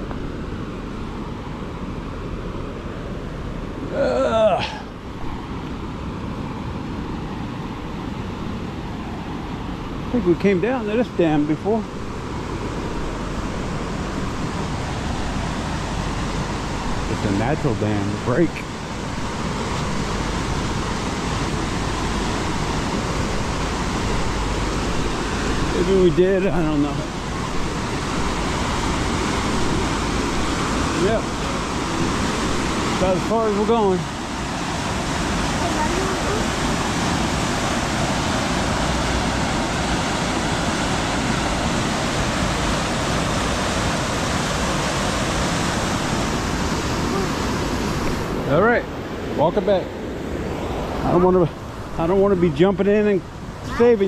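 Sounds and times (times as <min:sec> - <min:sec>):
roar of rushing water: 0:00.0 - 0:54.0.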